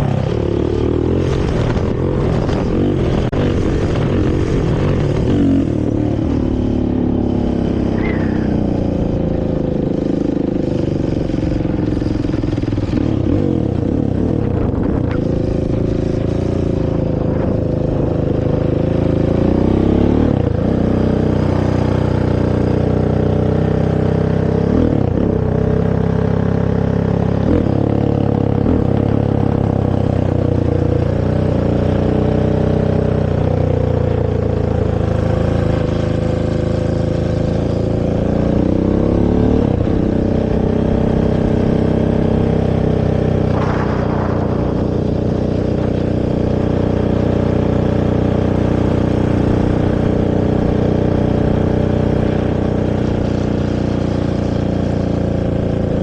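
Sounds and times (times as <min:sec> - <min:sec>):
quad engine under throttle: 0:00.0 - 0:56.0.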